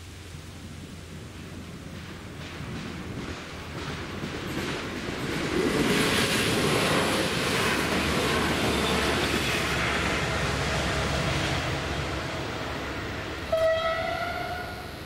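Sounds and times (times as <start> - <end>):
train wheels rumbling on rails: 0.1 - 15.0.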